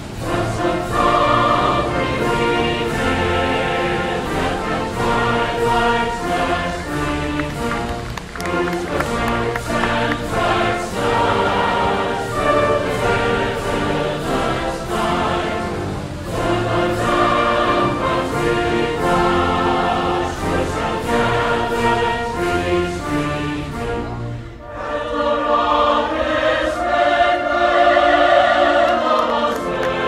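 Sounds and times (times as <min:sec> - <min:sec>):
choir singing slow piece: 0:00.0 - 0:30.0
orchestral accompaniment: 0:00.0 - 0:30.0.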